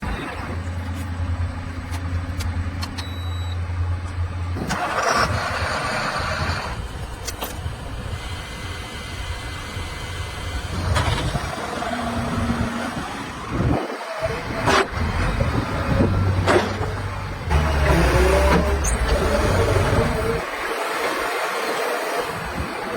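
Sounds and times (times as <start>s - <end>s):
heavy diesel engine humming: 0.0s - 22.9s.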